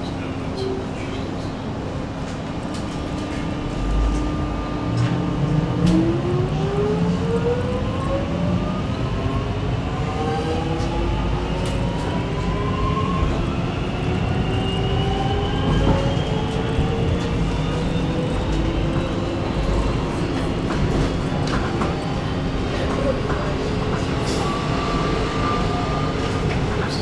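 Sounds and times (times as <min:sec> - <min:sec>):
low train rumble: 0:00.0 - 0:27.0
train traction motor whine: 0:01.6 - 0:27.0.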